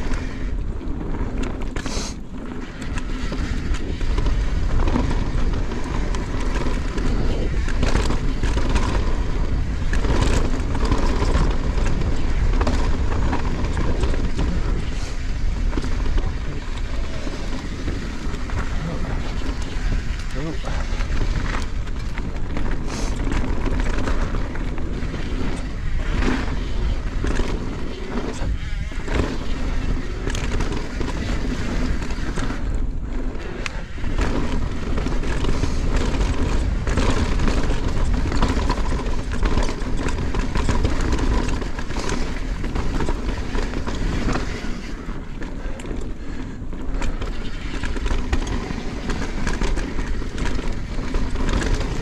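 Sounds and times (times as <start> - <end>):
bike rattling and knocking: 0.0 - 52.0
tyres crunching over dirt: 0.0 - 52.0
wind rumbling on microphone: 0.0 - 52.0.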